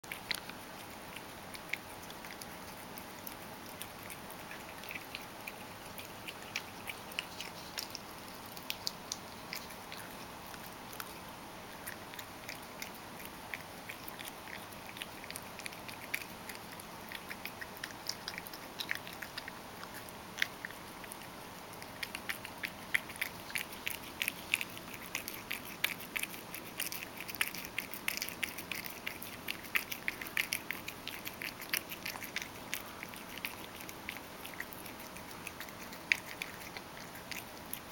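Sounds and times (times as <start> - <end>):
cat chewing wet food: 0.0 - 37.9.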